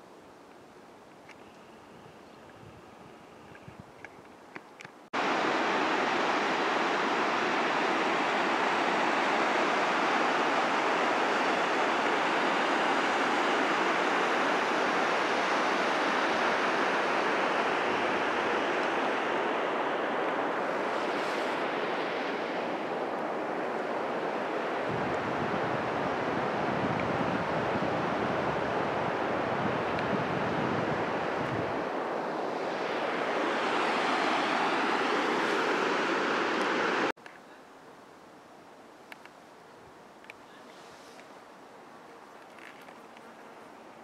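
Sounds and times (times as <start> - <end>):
steady rushing hiss: 5.1 - 44.0.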